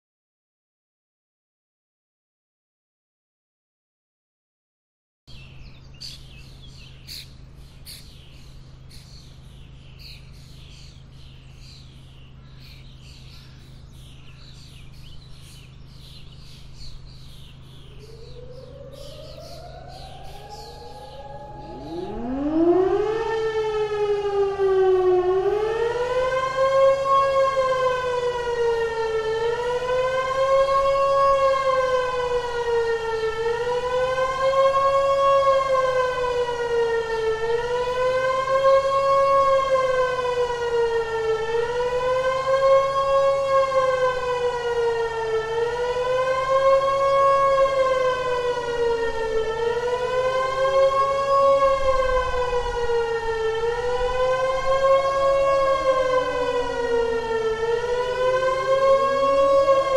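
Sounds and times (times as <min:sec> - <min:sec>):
siren wailing: 0:09.3 - 0:59.9.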